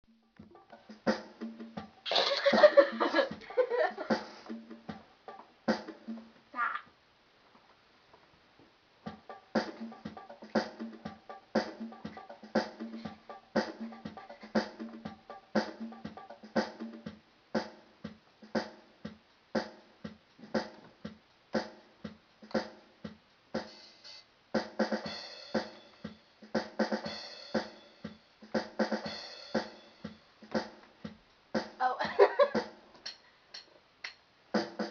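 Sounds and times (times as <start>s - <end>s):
drum machine beat: 0.1s - 6.5s, 9.0s - 34.9s.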